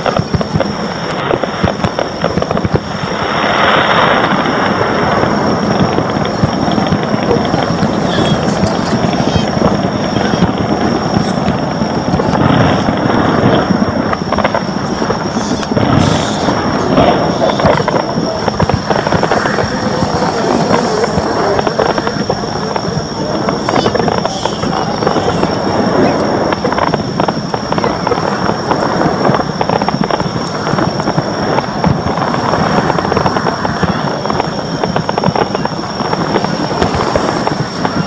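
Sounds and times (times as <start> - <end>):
fireworks cracking and crackling: 0.0 - 38.0
rumble of fireworks reports: 0.0 - 38.0.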